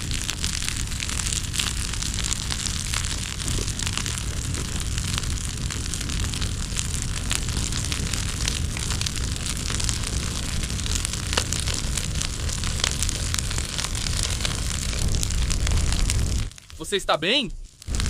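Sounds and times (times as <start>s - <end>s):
small fire pops: 0.0s - 18.0s
wood fire crackling: 0.0s - 18.0s.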